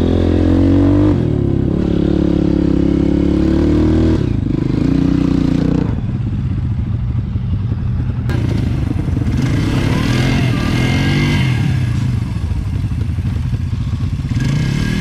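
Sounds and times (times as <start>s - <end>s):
dirt bike engine revving: 0.0s - 6.3s, 7.9s - 15.0s.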